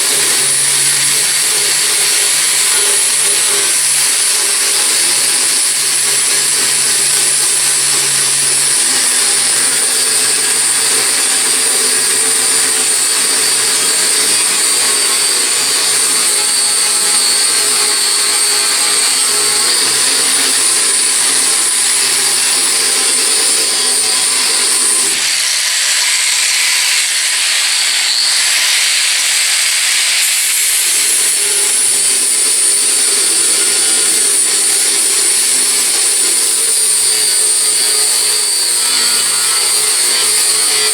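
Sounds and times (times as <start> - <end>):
grinder grinding steel: 0.0 - 40.9
grinder motor whine: 0.0 - 40.9.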